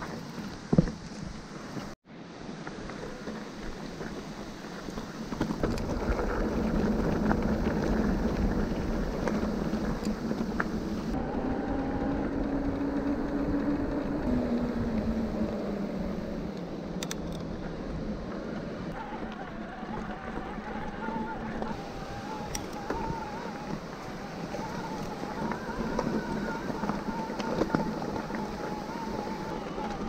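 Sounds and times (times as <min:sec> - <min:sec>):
tyres rolling: 0:02.9 - 0:30.0
wind on microphone: 0:02.9 - 0:30.0.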